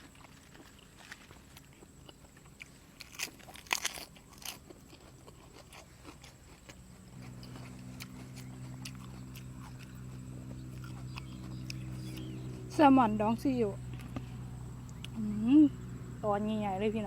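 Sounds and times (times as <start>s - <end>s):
crunchy chewing: 0.0s - 16.2s
low steady hum: 0.0s - 17.0s.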